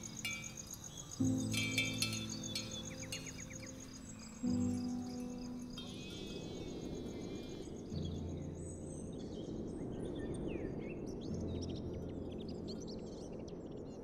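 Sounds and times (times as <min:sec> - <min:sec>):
bird chirps: 0:00.0 - 0:12.8
steady low background noise: 0:00.0 - 0:14.0.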